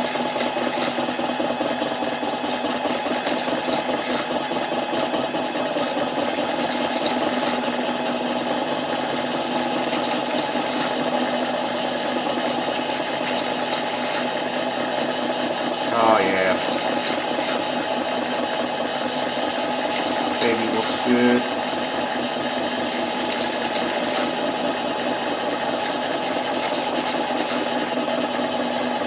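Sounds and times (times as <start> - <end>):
lathe motor whining: 0.0 - 29.0.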